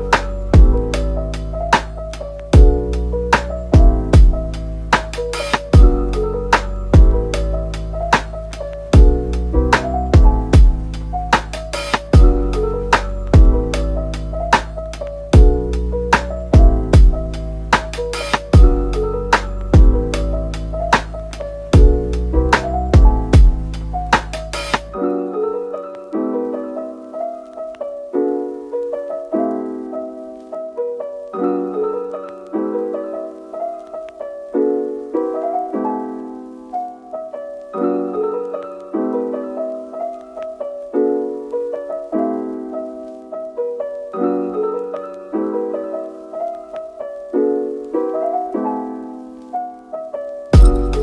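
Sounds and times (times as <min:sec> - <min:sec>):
soft piano chords: 0:00.0 - 0:51.0.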